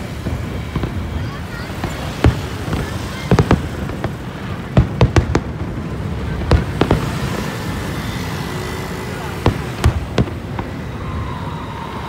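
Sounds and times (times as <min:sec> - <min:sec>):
fireworks bangs: 0:00.0 - 0:12.0
steady background noise: 0:00.0 - 0:12.0.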